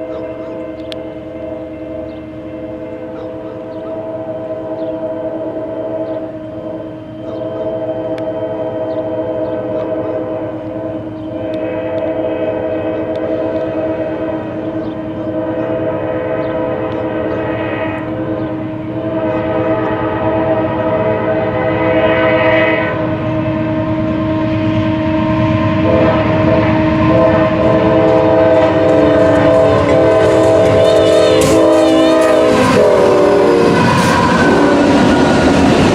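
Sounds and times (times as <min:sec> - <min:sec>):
freight train rumble: 0:00.0 - 0:35.9
locomotive air horn blasts: 0:00.0 - 0:35.9.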